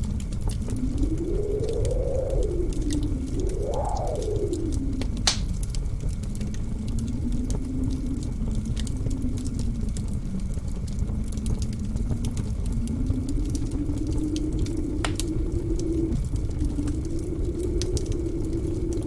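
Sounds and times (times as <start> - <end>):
blizzard wind howling: 0.0 - 19.0
low rumble: 0.0 - 19.0
wood fire crackling: 0.0 - 19.0.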